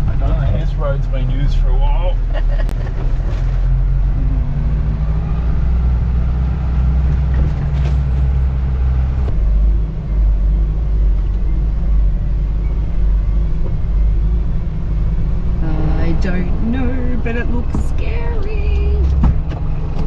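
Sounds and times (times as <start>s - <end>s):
truck diesel engine driving: 0.0s - 20.0s.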